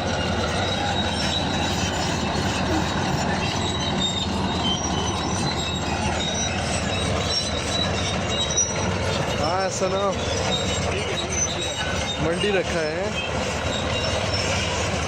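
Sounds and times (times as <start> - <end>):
bulldozer engine running: 0.0 - 15.0
high-pitched track squeaks: 0.0 - 15.0
steel crawler tracks clanking: 0.0 - 15.0.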